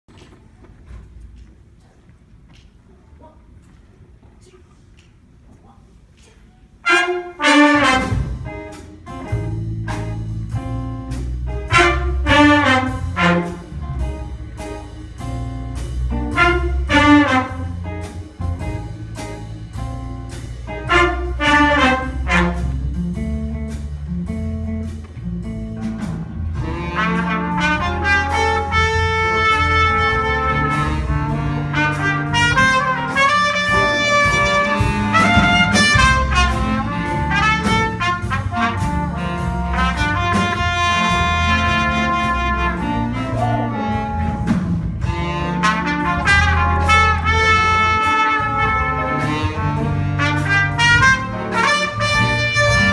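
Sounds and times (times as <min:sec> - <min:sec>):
jazz band playing: 0:06.7 - 0:52.9
trumpets and trombones: 0:06.8 - 0:10.5, 0:11.1 - 0:23.2, 0:25.8 - 0:52.9
steady bass line: 0:07.7 - 0:52.9.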